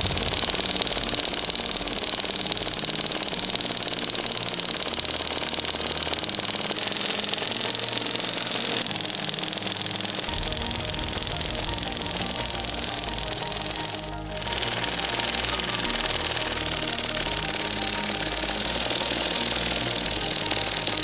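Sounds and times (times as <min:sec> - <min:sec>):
fast mechanical ticking: 0:00.0 - 0:21.0
small model engine running: 0:00.0 - 0:21.0.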